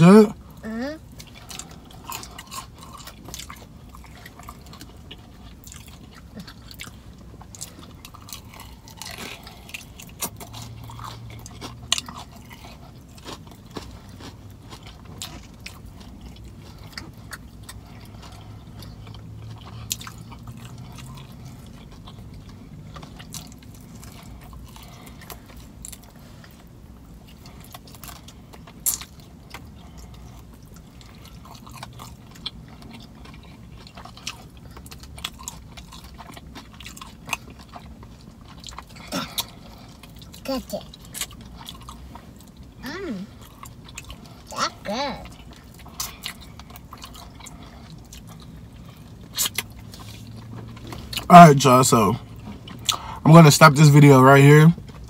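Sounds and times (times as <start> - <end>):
low steady hum: 0.0 - 55.0
person chewing fried chicken: 0.0 - 55.0.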